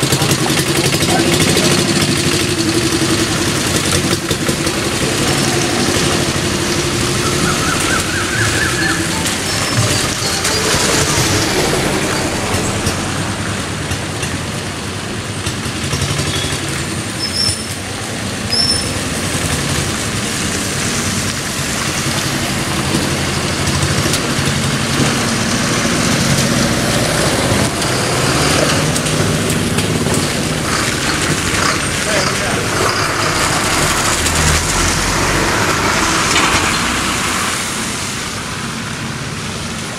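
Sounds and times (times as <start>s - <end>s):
tyre noise on rough road: 0.0s - 39.9s
vehicles passing slowly: 0.0s - 39.9s.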